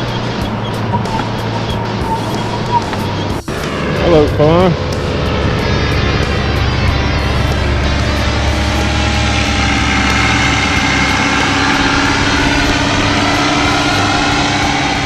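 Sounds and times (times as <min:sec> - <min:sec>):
small propeller engine droning: 0:00.0 - 0:15.0.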